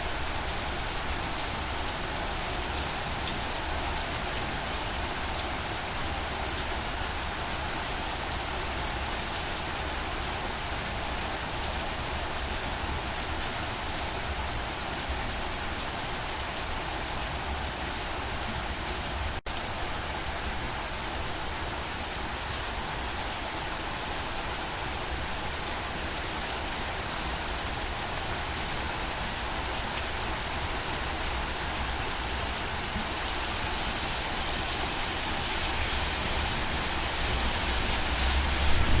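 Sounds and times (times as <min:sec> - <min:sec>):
dense rain falling: 0:00.0 - 0:39.0.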